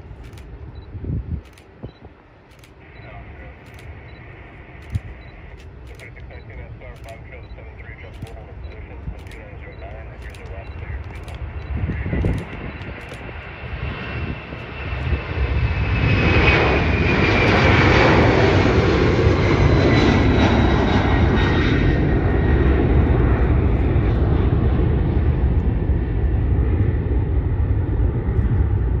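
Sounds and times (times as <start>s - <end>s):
jet engine whine: 0.0s - 29.0s
jet engines rumbling: 0.0s - 29.0s.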